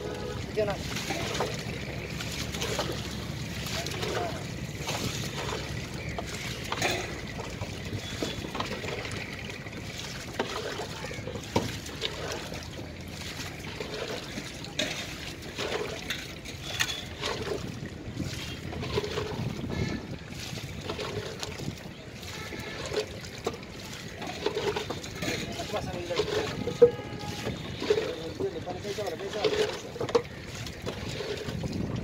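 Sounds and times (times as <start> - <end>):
water splashing and trickling: 0.0 - 32.0.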